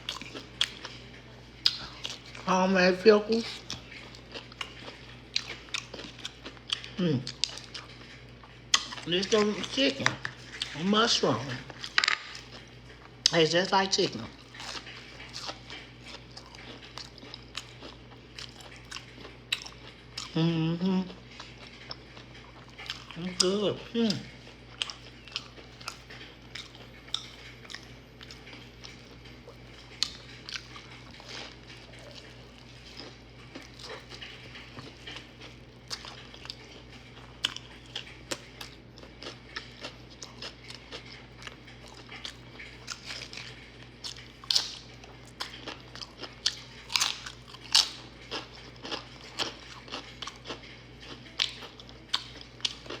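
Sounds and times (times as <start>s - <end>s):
person chewing crunchy sandwich: 0.0s - 2.5s, 3.3s - 13.4s, 14.2s - 53.0s.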